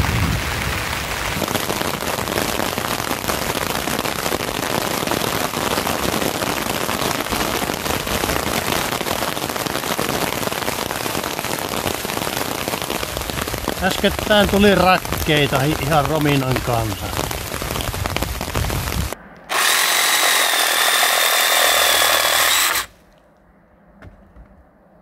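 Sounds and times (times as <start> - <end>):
heavy rain and hail on roof: 0.0 - 22.9.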